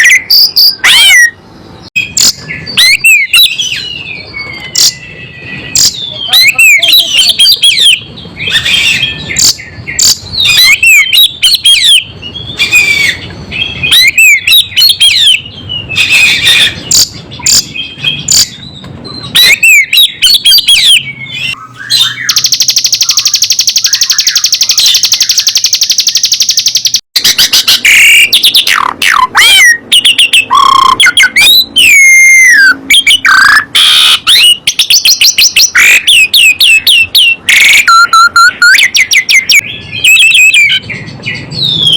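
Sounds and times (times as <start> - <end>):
buzzy bird trill: 0.0 - 41.9
songbirds singing: 0.0 - 41.9.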